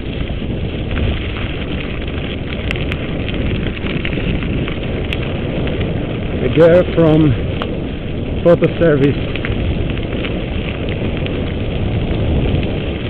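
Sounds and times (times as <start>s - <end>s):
bike clicks and rattles: 0.0s - 13.0s
wind rushing on microphone: 0.0s - 13.0s.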